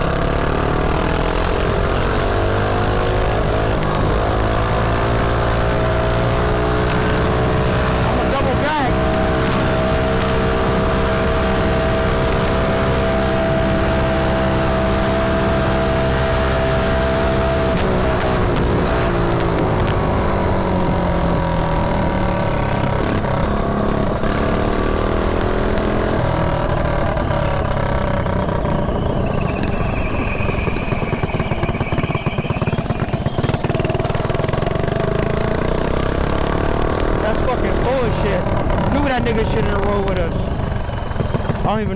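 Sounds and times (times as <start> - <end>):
mini bike engine running: 0.0 - 41.9.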